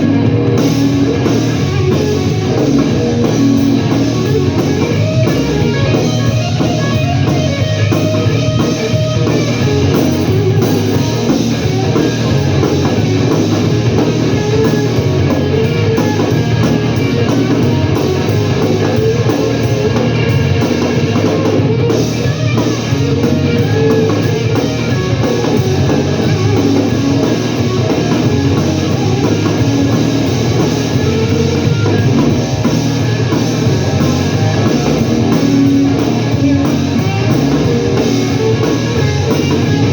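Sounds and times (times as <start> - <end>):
live blues-rock band: 0.0 - 39.9.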